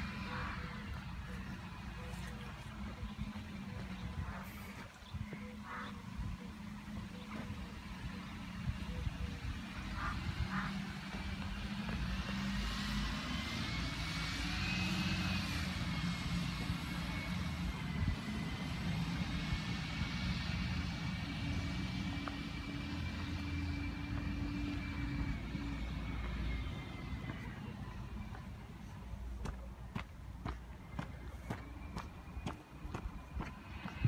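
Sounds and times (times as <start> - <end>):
distant lorry engine rumble: 0.0 - 34.0.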